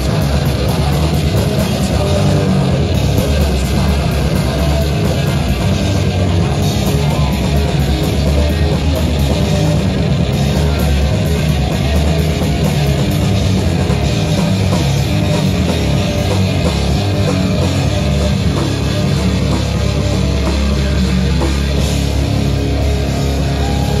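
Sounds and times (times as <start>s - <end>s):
metal band playing loud: 0.0s - 24.0s.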